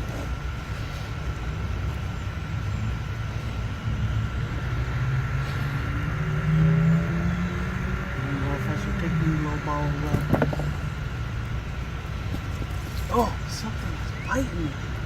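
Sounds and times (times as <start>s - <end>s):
faint high whine: 0.0s - 15.0s
low engine rumble: 0.0s - 15.0s.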